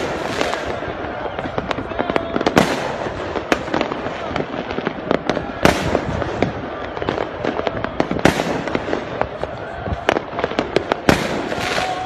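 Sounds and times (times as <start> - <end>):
firecrackers crackling: 0.0 - 12.0
sharp firework bangs: 0.0 - 12.0.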